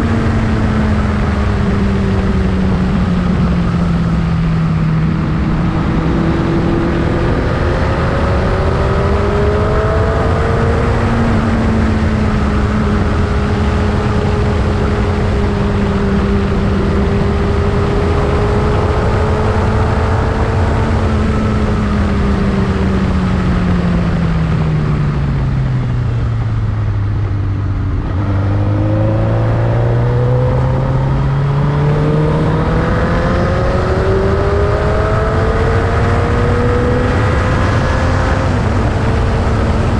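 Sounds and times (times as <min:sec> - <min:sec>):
heavy wind noise: 0:00.0 - 0:39.9.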